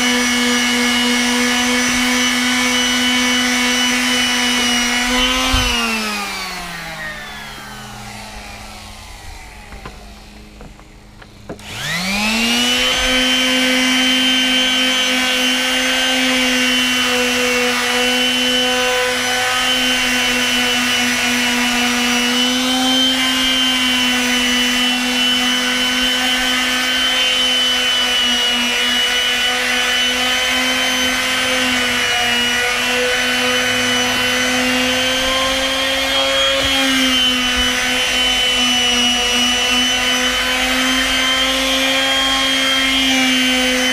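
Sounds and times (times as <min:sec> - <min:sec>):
palm sander on wood: 0:00.0 - 0:43.9.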